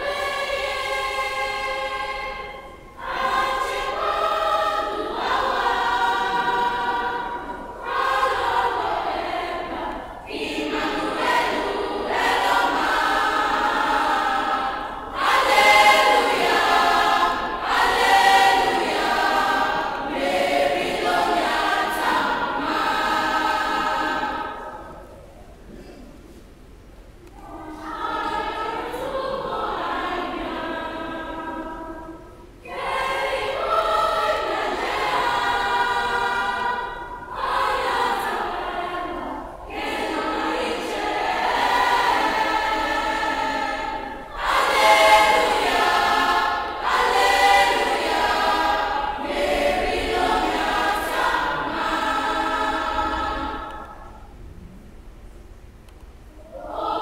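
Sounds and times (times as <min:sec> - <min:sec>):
girls choir singing: 0:00.0 - 0:26.0, 0:27.2 - 0:54.4, 0:55.9 - 0:57.0.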